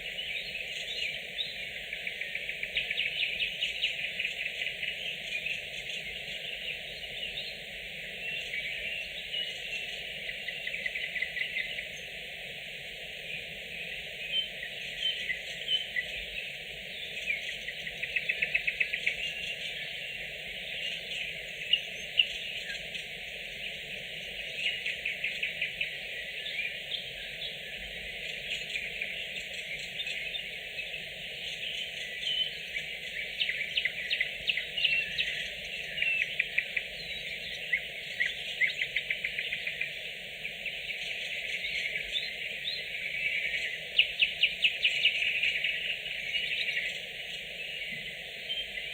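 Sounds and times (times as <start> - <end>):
nightingales singing: 0.0 - 48.9.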